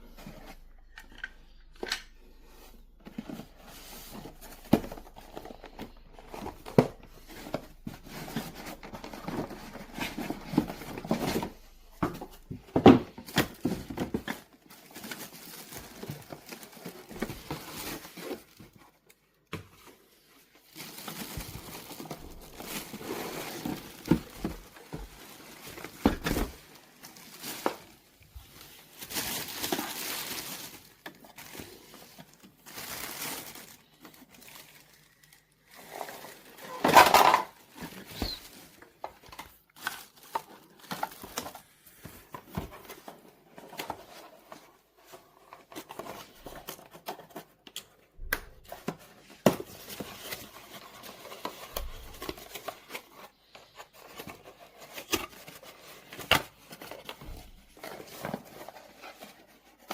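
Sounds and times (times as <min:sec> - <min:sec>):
crinkling and rustling: 0:00.0 - 0:59.9.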